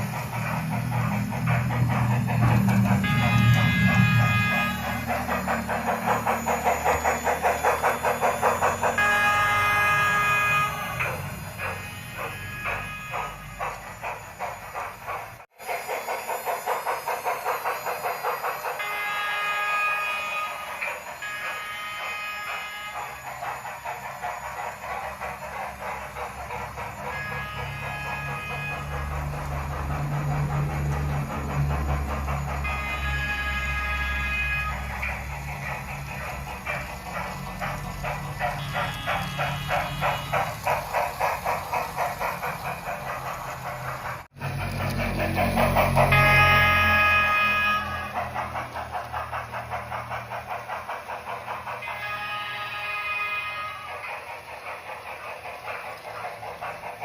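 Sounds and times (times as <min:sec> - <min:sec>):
multi-tone steam whistle: 0:00.0 - 0:57.0
steam locomotive chuffing: 0:00.0 - 0:57.0.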